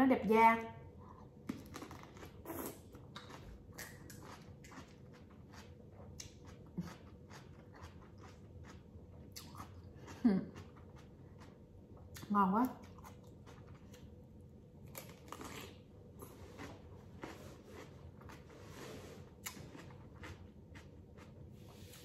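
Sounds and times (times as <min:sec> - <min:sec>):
person chewing crunchy vegetable: 0:01.4 - 0:14.2, 0:14.8 - 0:21.9.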